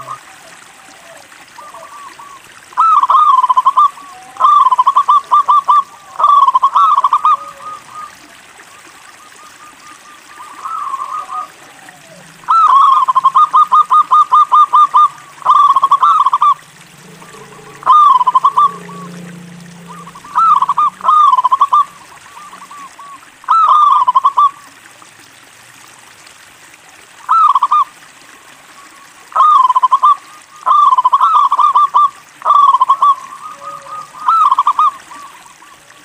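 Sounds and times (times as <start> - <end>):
dove cooing: 0.0 - 24.7, 29.4 - 36.0.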